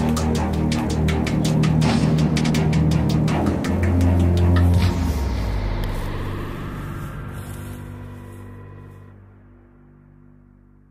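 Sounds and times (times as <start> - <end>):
background music with low notes: 0.0 - 10.9.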